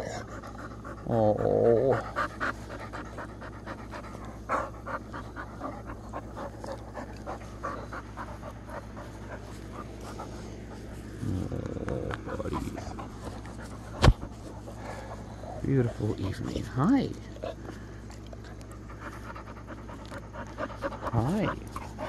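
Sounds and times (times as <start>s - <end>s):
dogs panting: 0.0s - 22.0s.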